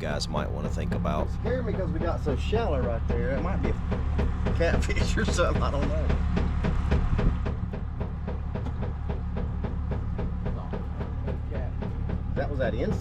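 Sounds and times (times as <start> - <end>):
low hum from boat: 0.0 - 13.0.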